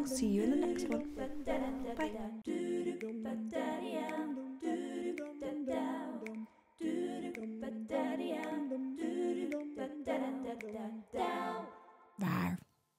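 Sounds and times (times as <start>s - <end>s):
a cappella singing: 0.0s - 12.2s.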